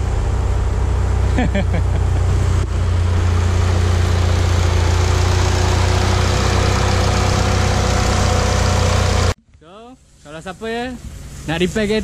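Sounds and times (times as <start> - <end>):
car engine idling: 0.0 - 9.4, 10.0 - 12.0.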